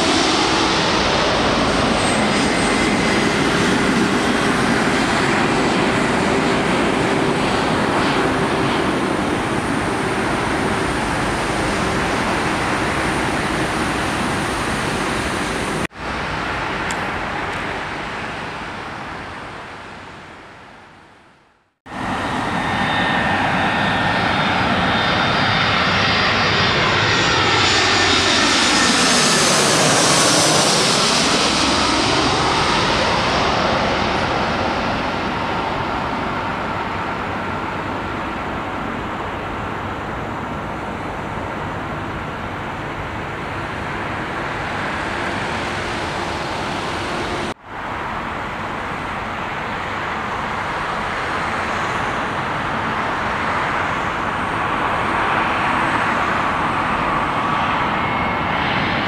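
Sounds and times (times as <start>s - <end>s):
jet airliner flying overhead: 0.0s - 59.0s
jet engine on runway: 0.0s - 59.0s.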